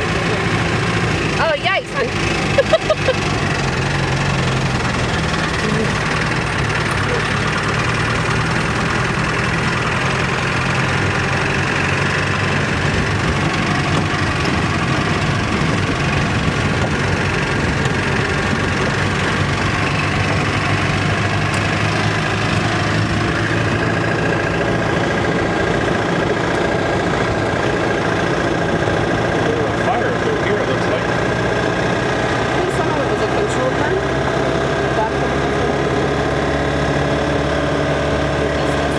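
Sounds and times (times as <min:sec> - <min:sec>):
vehicle engine driving on dirt road: 0:00.0 - 0:38.9.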